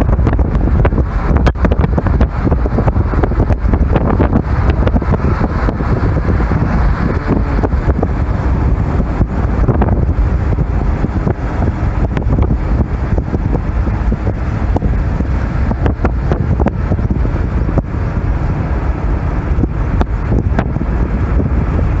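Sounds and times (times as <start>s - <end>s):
road and wind noise rumble: 0.0s - 22.0s.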